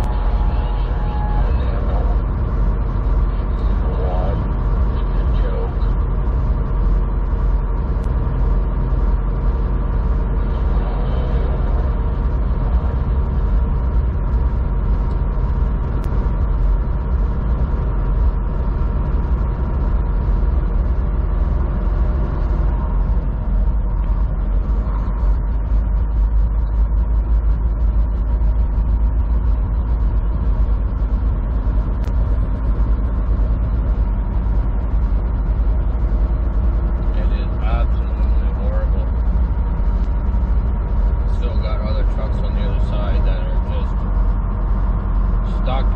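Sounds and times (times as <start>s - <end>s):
road noise rumble: 0.0s - 45.9s
vehicle engine hum: 0.0s - 45.9s.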